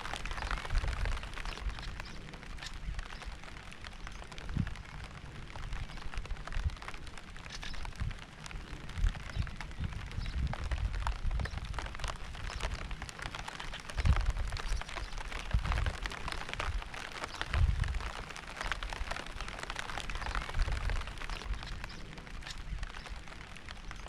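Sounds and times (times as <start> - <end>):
raindrops pattering: 0.0 - 24.0.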